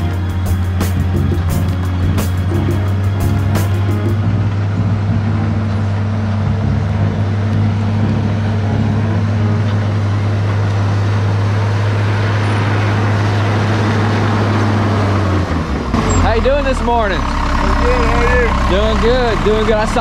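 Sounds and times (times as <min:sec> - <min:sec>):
dozer diesel engine droning: 0:00.0 - 0:20.0.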